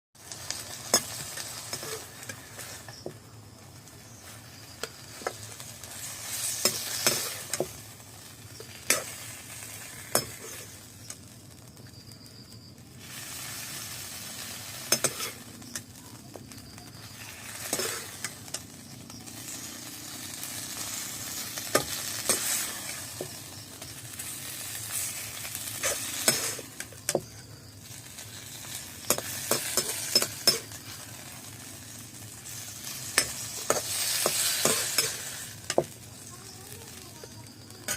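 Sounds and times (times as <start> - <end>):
chicken sizzling in a pan: 0.2 - 37.9.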